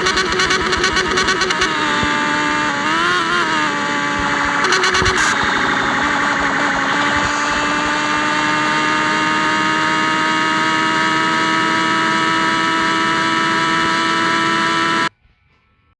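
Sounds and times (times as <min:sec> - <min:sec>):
motorcycle engine running: 0:00.0 - 0:15.1.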